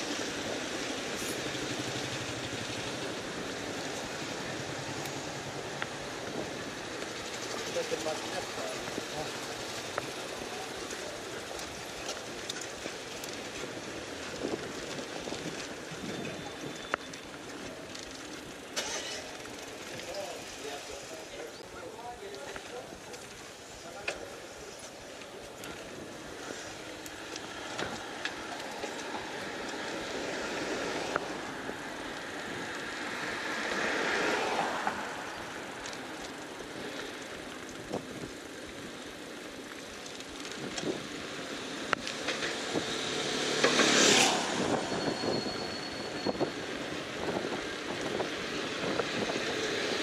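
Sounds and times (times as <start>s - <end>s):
city traffic noise: 0.0s - 50.0s
vehicles passing close: 0.0s - 50.0s.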